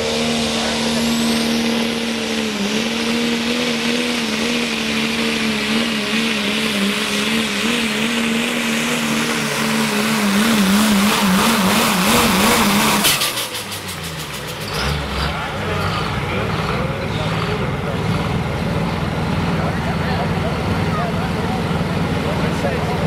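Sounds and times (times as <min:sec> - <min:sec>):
diesel truck engine at high rpm: 0:00.0 - 0:23.0.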